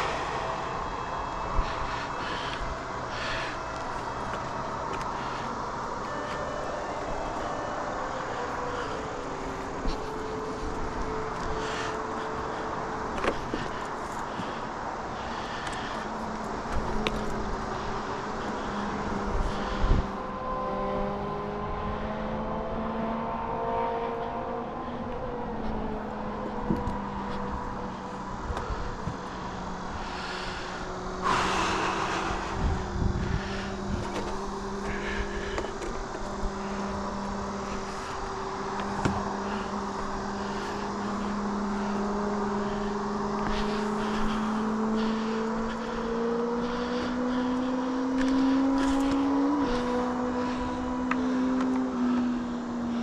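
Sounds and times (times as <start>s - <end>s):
engine drone: 0.0s - 53.0s.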